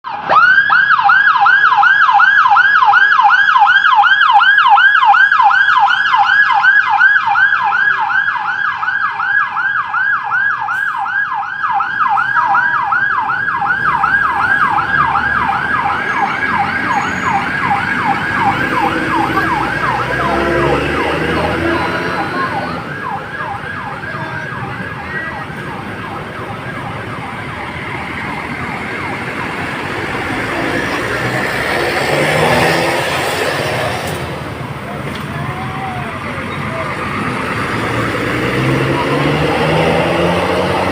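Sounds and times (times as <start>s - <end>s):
electronic siren yelping: 0.1s - 31.9s, 38.7s - 40.9s
low rumble of traffic: 0.1s - 40.9s.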